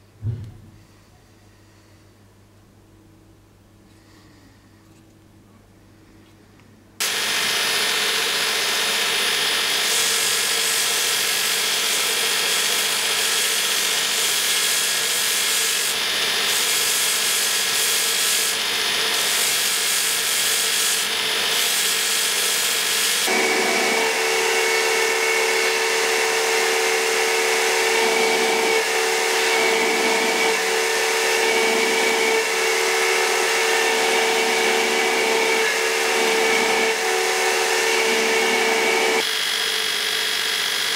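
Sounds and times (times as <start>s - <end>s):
grinder pitched hum: 0.8s - 40.9s
belt grinder grinding metal: 7.0s - 40.9s.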